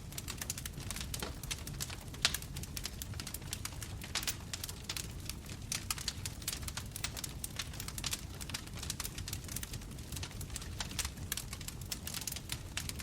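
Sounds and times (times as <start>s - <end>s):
bonfire crackling: 0.0s - 13.0s
low rumble of flames: 0.0s - 13.0s.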